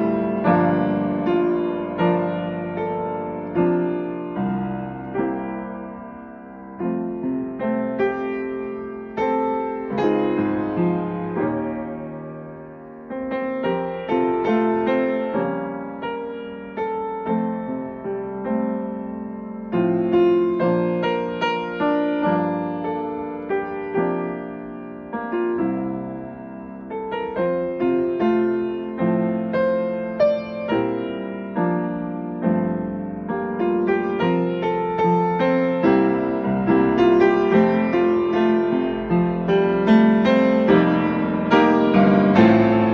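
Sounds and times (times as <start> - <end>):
solo piano hymn chords: 0.0 - 42.9.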